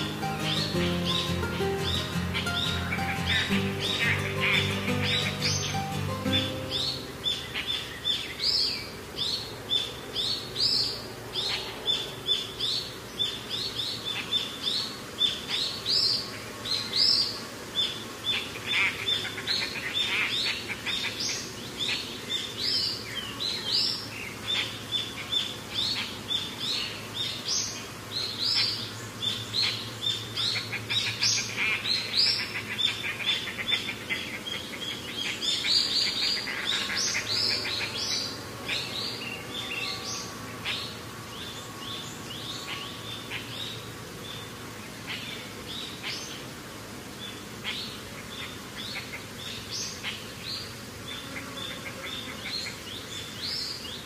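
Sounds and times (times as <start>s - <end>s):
birds chirping chorus: 0.0s - 54.0s.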